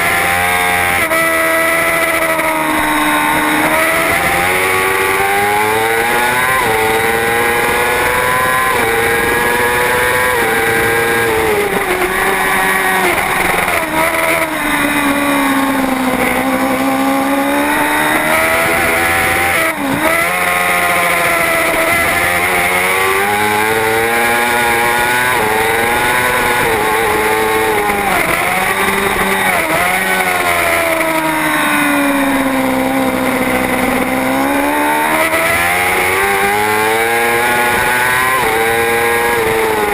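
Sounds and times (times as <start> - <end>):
motorbike engine racing: 0.0 - 39.9.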